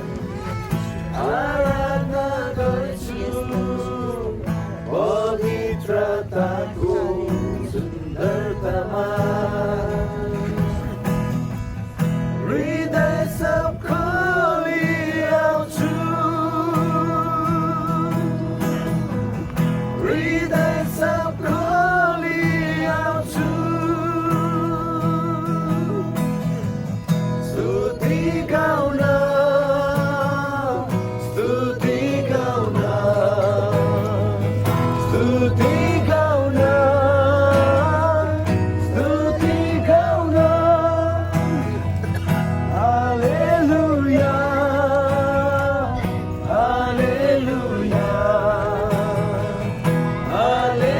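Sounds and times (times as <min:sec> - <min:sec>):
people singing: 0:00.0 - 0:50.9
strummed guitar chords: 0:00.0 - 0:50.9.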